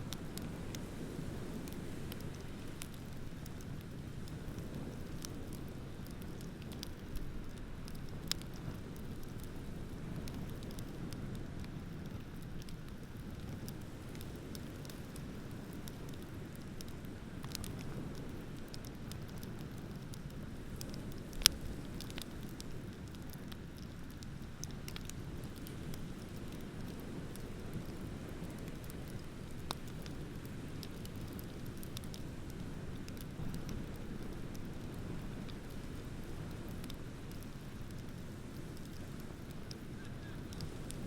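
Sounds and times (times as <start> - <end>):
bonfire crackling and popping: 0.0 - 41.0.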